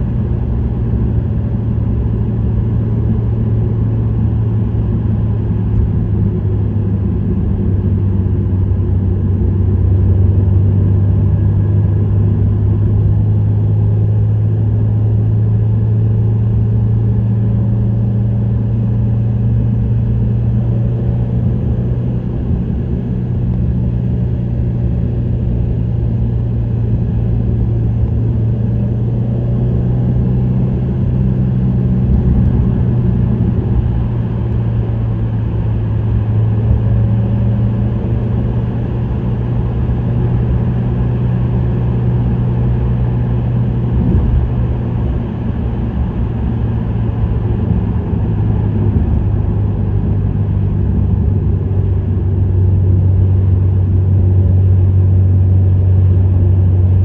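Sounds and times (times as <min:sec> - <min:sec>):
car exhaust drone: 0:00.0 - 0:57.0
road noise: 0:00.0 - 0:57.0.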